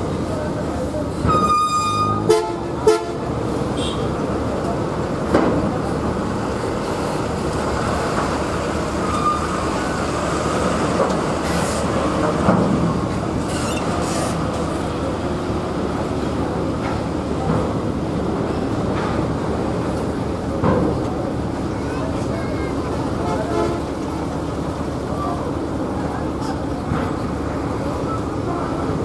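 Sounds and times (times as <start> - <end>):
heavy vehicle traffic rumble: 0.0 - 29.0.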